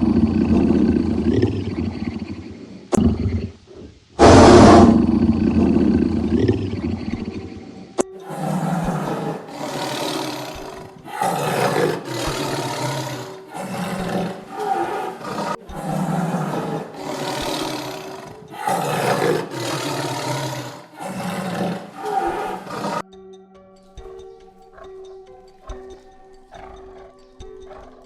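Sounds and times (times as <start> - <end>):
big cat roaring: 0.0 - 23.0, 24.0 - 25.0.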